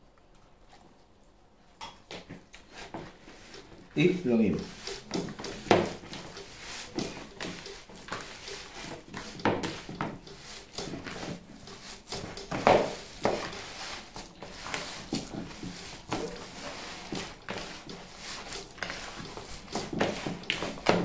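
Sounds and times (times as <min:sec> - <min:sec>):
dough squashing presses: 0:02.2 - 0:21.0.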